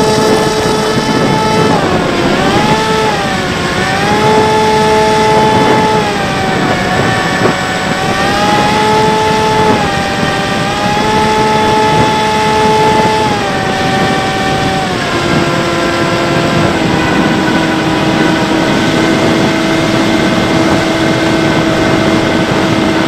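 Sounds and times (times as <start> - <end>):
electric motor and propeller whining: 0.0 - 23.0
wind rushing over microphone: 0.0 - 23.0.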